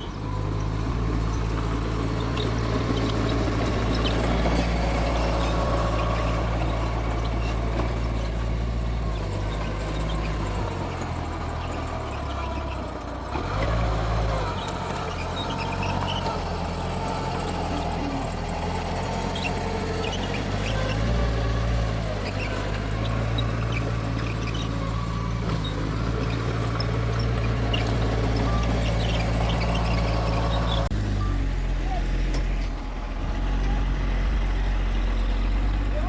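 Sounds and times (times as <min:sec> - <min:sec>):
faint high squeaks: 0:00.0 - 0:12.8, 0:13.5 - 0:32.7
bulldozer diesel engine under load: 0:00.0 - 0:36.0.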